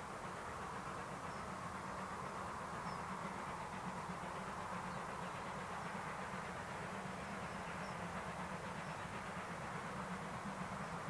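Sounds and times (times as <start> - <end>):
distant steam train rumble: 0.0 - 11.0.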